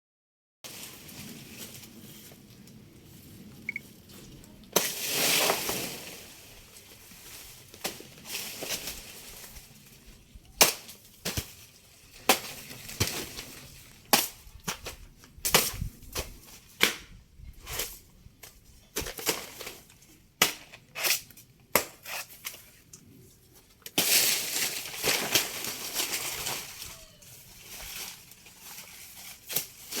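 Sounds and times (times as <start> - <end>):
rustling and crunching: 0.7 - 21.3, 21.9 - 30.0.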